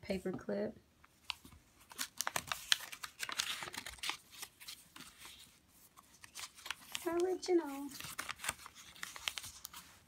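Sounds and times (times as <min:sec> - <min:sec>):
paper pages rustling: 0:01.2 - 0:10.0.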